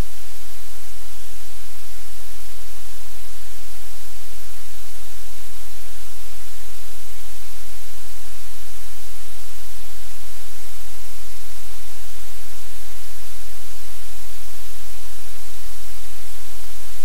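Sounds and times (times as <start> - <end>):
low electrical hum: 0.0 - 17.0
static hiss: 0.0 - 17.0.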